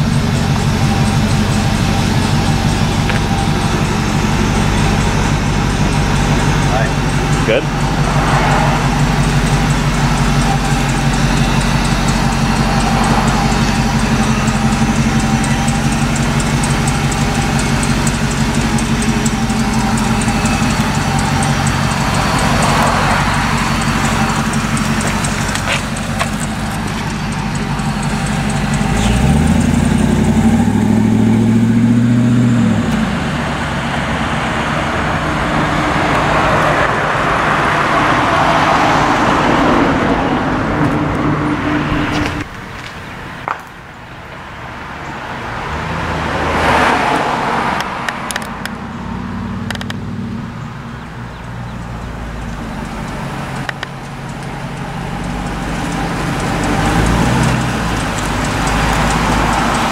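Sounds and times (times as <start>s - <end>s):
truck engine driving past: 0.0s - 48.1s, 48.7s - 59.9s
road and tyre noise: 0.0s - 59.9s.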